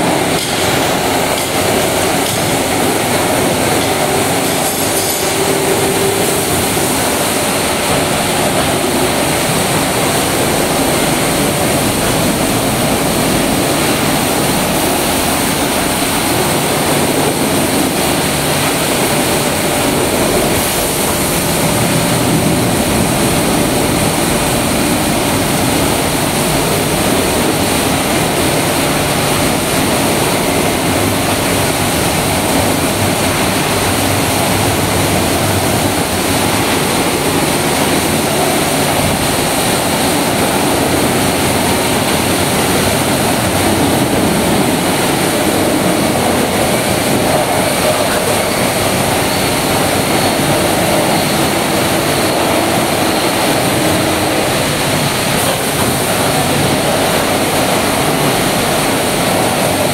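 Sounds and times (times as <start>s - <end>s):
car wash machinery: 0.0s - 59.9s
water spray: 0.0s - 59.9s.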